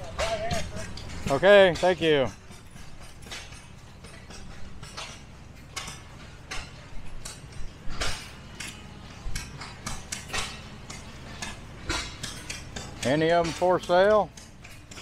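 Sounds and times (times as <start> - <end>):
stationary gas engines running: 0.0 - 15.0.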